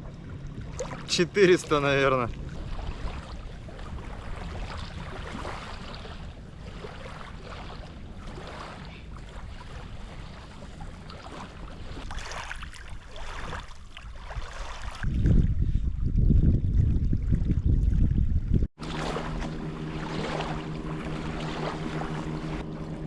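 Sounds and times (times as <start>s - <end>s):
water lapping: 0.0s - 23.0s
wind: 0.0s - 23.0s
wind buffeting microphone: 0.0s - 23.0s.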